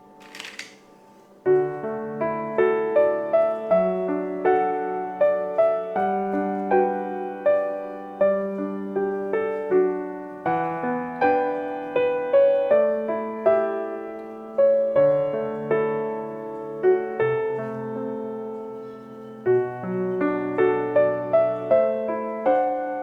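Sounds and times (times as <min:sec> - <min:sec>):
gentle slow piano melody: 0:00.0 - 0:23.0.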